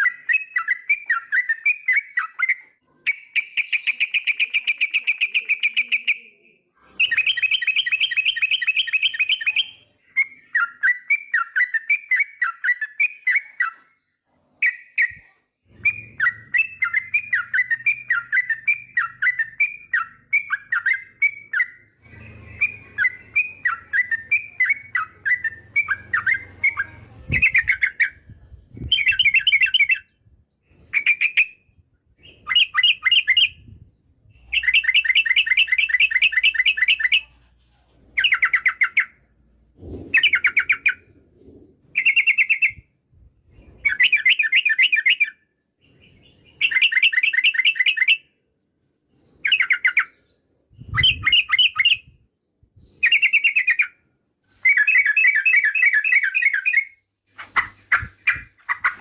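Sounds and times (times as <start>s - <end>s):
bird singing chattering phrases: 0.0s - 42.9s, 49.3s - 59.0s.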